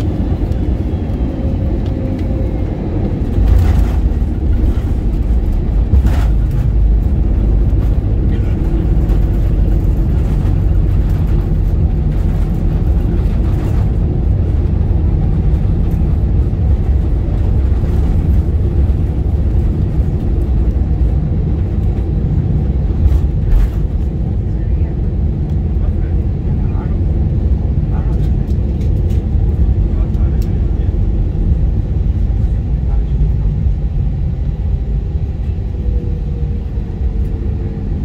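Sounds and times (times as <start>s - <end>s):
aircraft cabin rumble: 0.0s - 38.0s.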